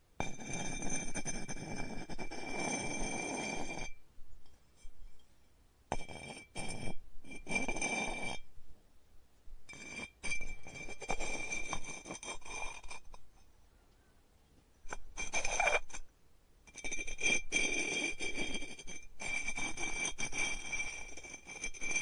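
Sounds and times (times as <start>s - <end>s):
clay rubbing and scraping: 0.2s - 8.5s, 9.7s - 13.6s, 14.6s - 16.1s, 16.7s - 22.0s.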